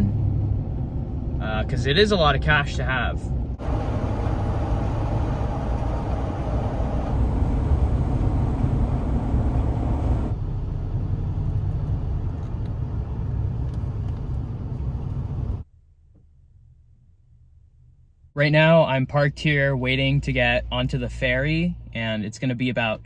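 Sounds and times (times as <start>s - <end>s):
vehicle road and engine rumble: 0.0s - 23.0s.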